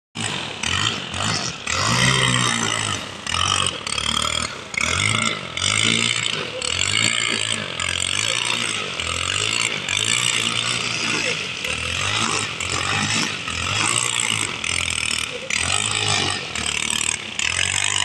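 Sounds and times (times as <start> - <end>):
brush cutter cutting grass: 0.2 - 18.0.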